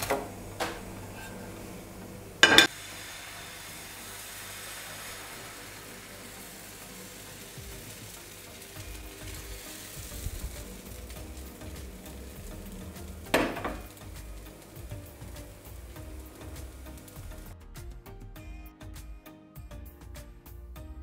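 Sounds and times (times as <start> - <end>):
batter sizzling in frying pan: 0.0 - 17.6.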